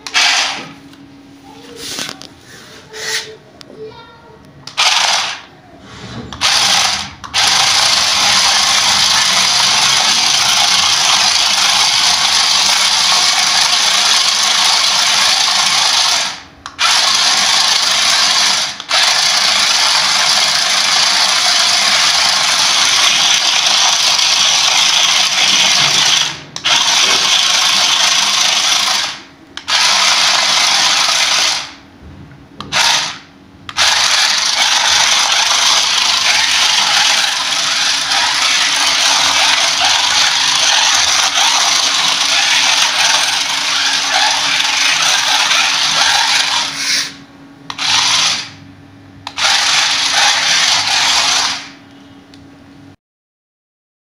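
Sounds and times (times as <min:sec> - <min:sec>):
toy truck electric motor whining: 0:00.0 - 0:00.7, 0:04.7 - 0:31.8, 0:32.7 - 0:48.6, 0:49.3 - 0:51.8.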